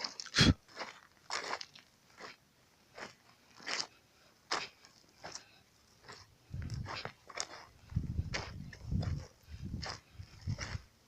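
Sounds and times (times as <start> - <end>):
footsteps crunching on loose ground: 0.0 - 11.0.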